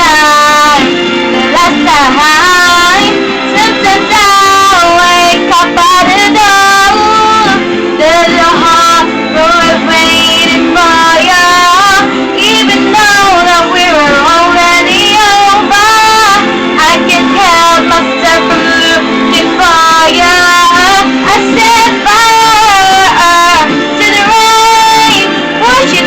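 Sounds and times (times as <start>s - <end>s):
instrumental backing music: 0.0s - 26.0s
woman singing pop ballad: 0.0s - 26.0s.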